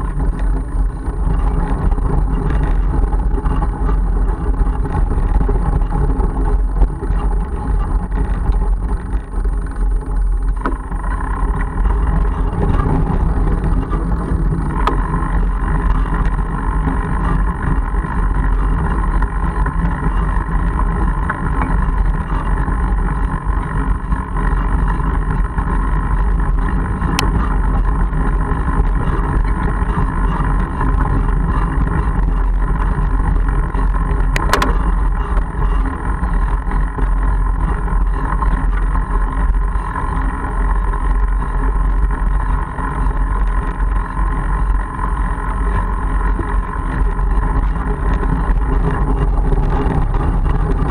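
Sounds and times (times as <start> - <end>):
bike tyres rumbling on gravel: 0.0 - 50.9
faint steady hum: 0.0 - 50.9.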